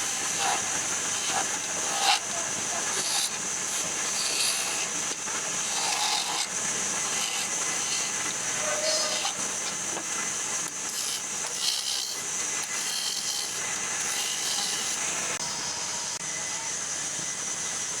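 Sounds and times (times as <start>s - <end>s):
power tool cutting wood: 0.0s - 9.8s, 10.6s - 15.4s.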